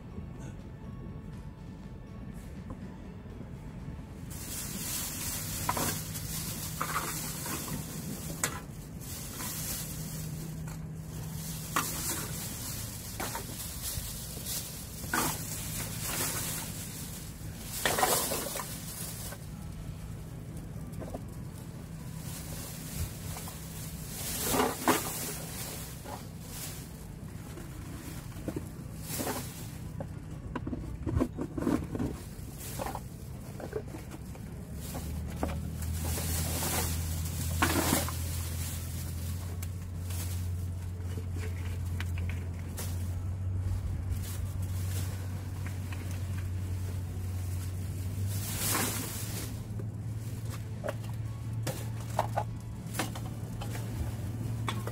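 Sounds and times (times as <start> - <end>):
low steady hum: 0.0 - 54.9
plastic bag rustling: 4.2 - 54.9.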